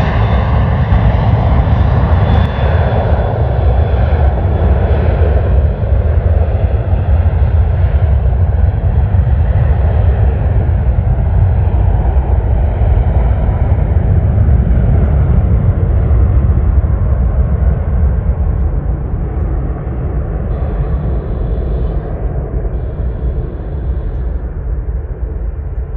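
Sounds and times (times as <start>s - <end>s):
jet engines rumbling: 0.0s - 25.9s.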